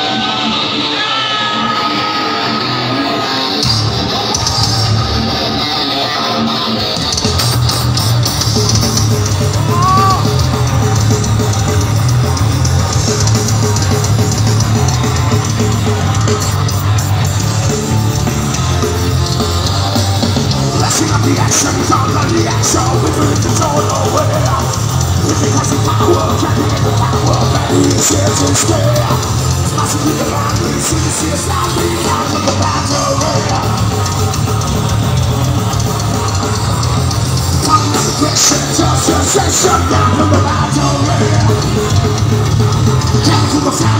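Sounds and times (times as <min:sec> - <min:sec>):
drum kit: 0:00.0 - 0:43.9
electric guitars: 0:00.0 - 0:43.9.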